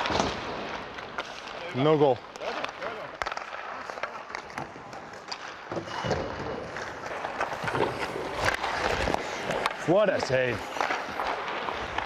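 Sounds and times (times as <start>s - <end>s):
skate blades scraping on ice: 0.0s - 12.0s
stick and puck clicks: 0.0s - 12.0s.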